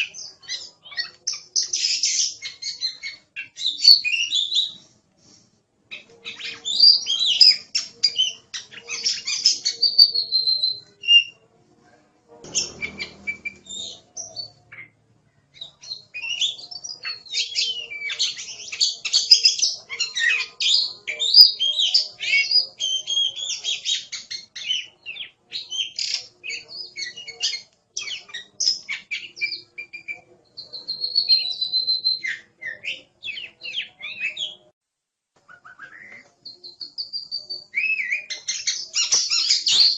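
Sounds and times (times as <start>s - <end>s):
bird singing whistles and trills: 0.0s - 4.8s, 5.9s - 11.4s, 12.5s - 34.7s, 35.5s - 39.9s.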